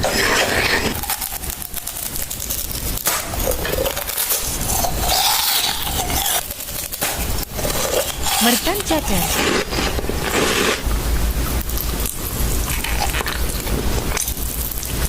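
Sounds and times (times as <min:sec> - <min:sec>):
chewing crunchy pickled fruit: 0:00.0 - 0:10.9, 0:11.8 - 0:15.0.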